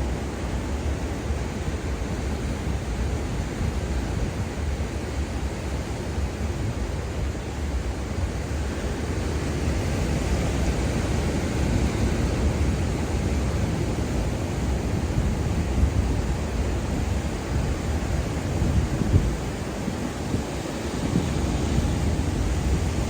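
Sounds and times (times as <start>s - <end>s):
wind rumble on microphone: 1.8s - 23.0s.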